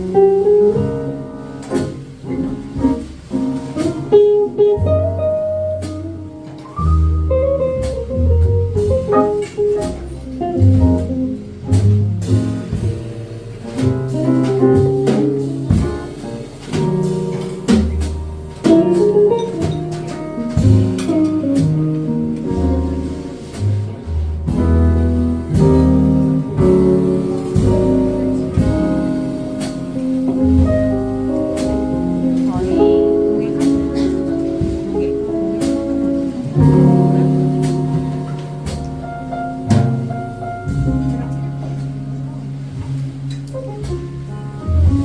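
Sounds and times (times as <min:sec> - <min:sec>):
jazz band playing: 0:00.0 - 0:45.0.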